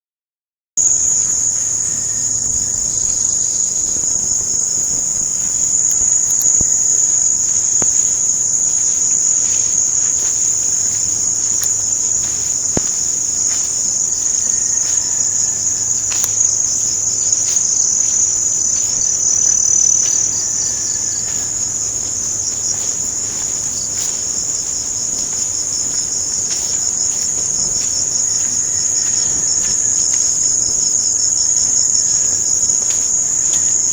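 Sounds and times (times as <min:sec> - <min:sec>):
insects trilling: 0:00.8 - 0:33.9.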